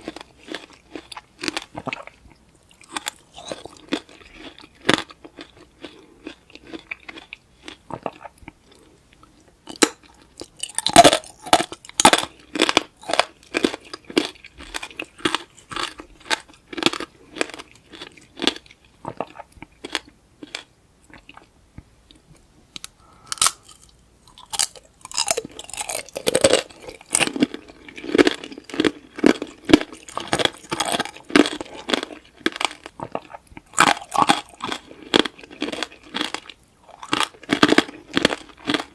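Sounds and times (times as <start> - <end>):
crunching hard candy: 0.0 - 8.3, 9.7 - 21.4, 23.1 - 38.9.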